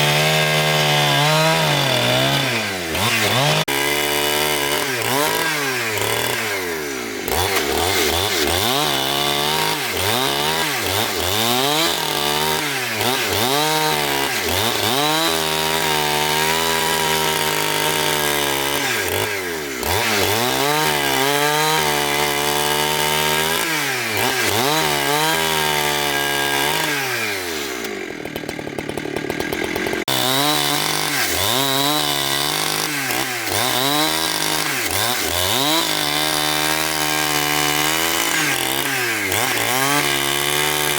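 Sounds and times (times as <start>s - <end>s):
petrol saw cutting a log: 0.0s - 40.9s.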